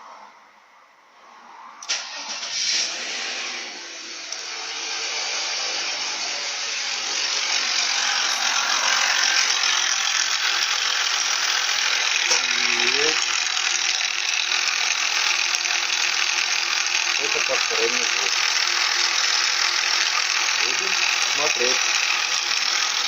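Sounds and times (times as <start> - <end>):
car engine running: 1.9 - 23.0.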